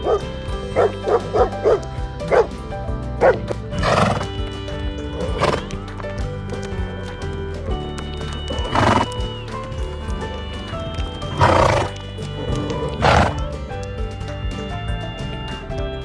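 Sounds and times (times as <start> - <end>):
background music with held notes: 0.0 - 16.0
horse calls: 0.0 - 16.0.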